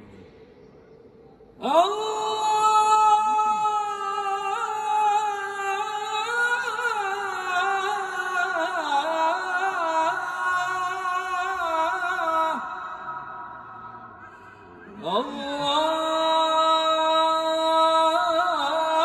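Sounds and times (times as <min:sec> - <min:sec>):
man chanting into a microphone: 0:01.6 - 0:19.0.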